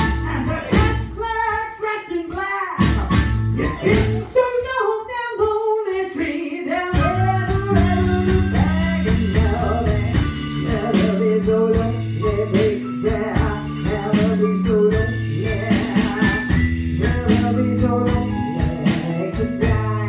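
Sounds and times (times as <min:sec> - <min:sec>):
keyboard: 0:00.0 - 0:04.7, 0:07.0 - 0:20.0
drum kit: 0:00.0 - 0:04.8, 0:05.4 - 0:20.0
woman singing: 0:00.0 - 0:20.0.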